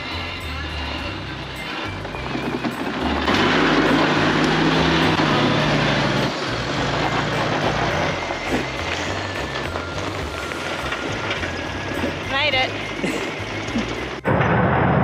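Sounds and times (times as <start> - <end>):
car engine pulling under load: 0.0 - 14.4.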